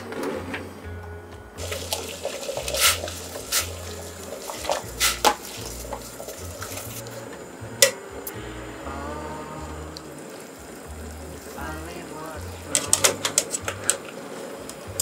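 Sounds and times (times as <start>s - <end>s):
water boiling: 1.6s - 15.0s.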